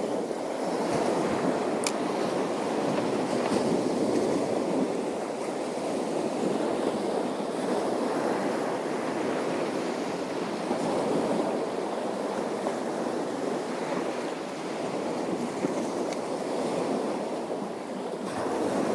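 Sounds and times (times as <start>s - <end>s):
waves washing against shore: 0.0s - 18.9s.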